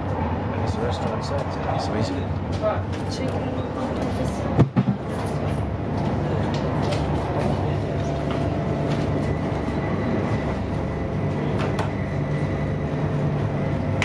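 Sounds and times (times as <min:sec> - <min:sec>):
train cabin rumble and hum: 0:00.0 - 0:14.0.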